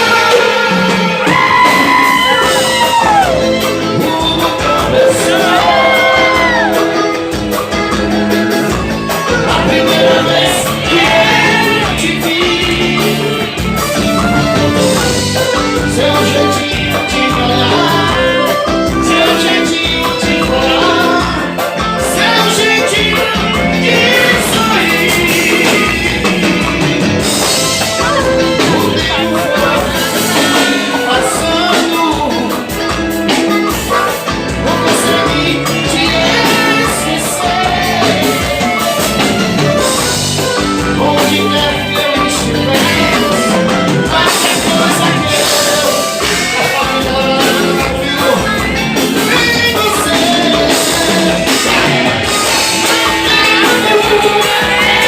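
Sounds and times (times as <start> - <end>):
live band with singing: 0.0 - 55.0.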